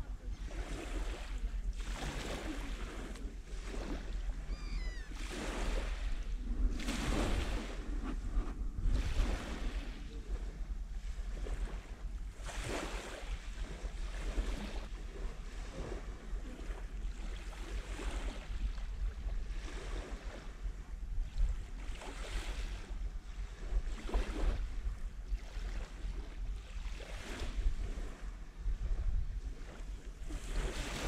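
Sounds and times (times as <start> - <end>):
small waves lapping on shore: 0.0 - 31.0
wind rumble on microphone: 0.0 - 31.0.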